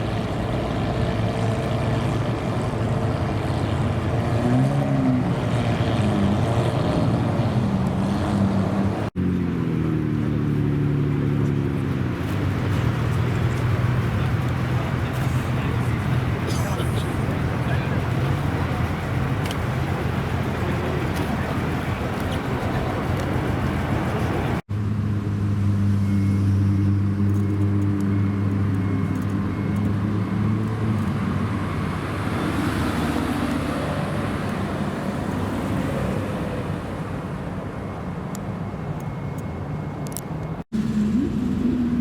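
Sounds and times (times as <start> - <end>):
car engine running low: 0.0 - 38.0
traffic noise: 0.0 - 42.0.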